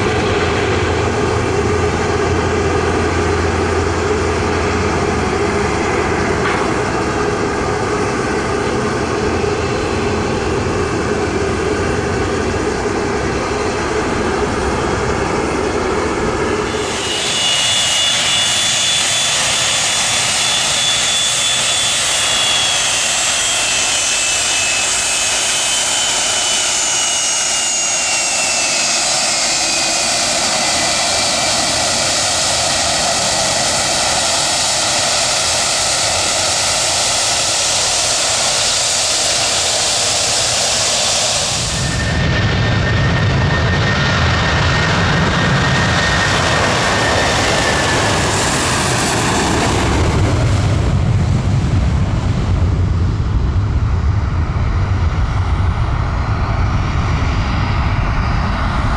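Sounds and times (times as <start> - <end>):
engine whine falling in pitch: 0.0 - 53.3
jet engines roaring: 0.0 - 58.9.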